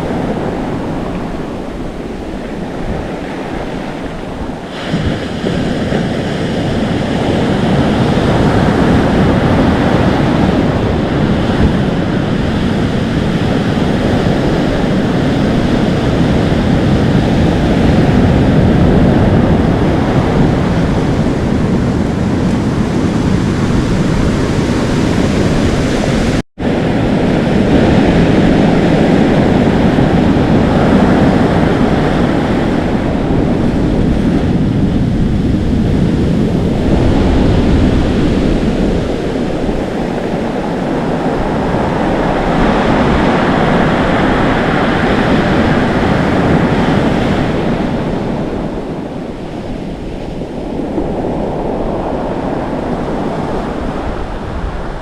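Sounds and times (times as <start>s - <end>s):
ocean surf washing in: 0.0s - 55.0s
wind on microphone: 0.0s - 55.0s.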